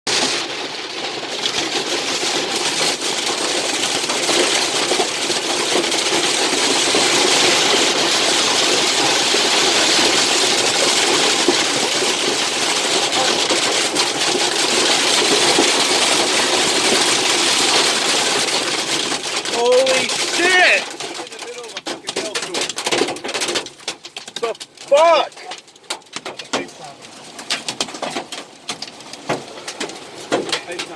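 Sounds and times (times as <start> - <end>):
hailstones pelting down: 0.1 - 30.9.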